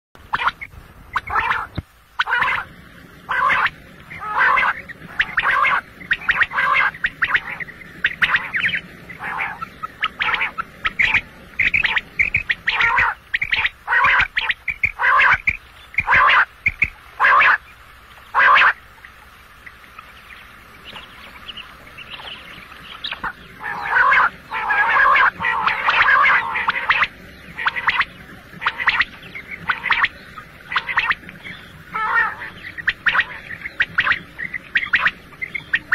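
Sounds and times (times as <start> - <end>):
quail calling: 0.2 - 35.9.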